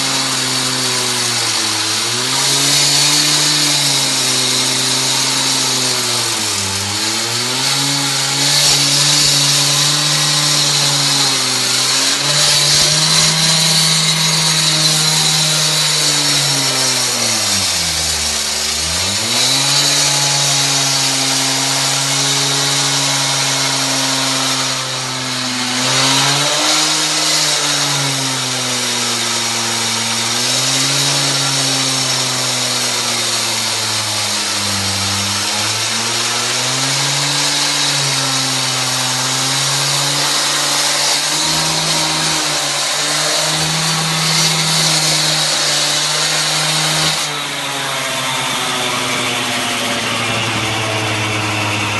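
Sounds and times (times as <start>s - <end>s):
concrete saw engine running: 0.0s - 51.9s.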